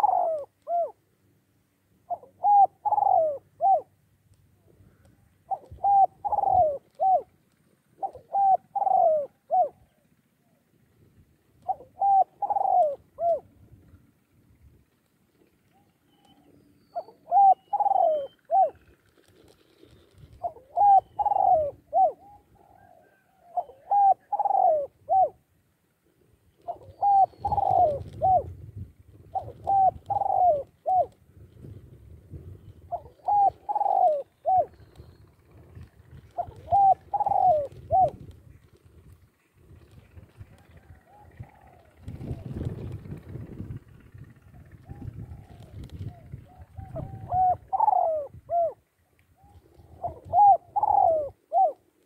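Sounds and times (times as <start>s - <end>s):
dove cooing: 0.0s - 1.0s, 2.0s - 4.0s, 4.8s - 14.8s, 15.4s - 52.0s.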